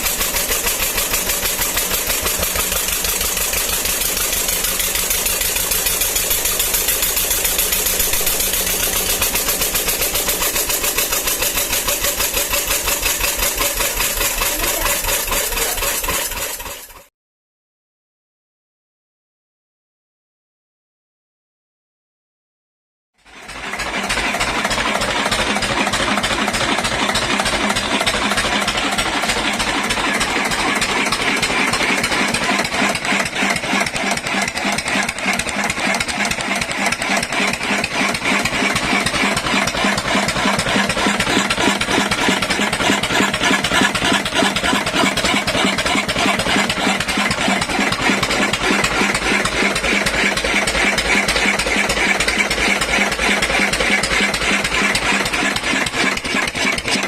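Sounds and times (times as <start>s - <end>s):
diesel engine running: 0.0s - 17.1s, 23.2s - 57.0s.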